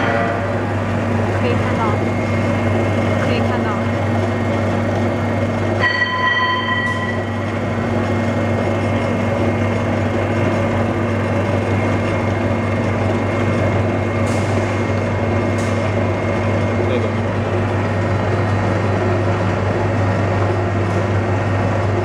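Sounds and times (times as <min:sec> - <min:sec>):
mixer motor hum: 0:00.0 - 0:22.0.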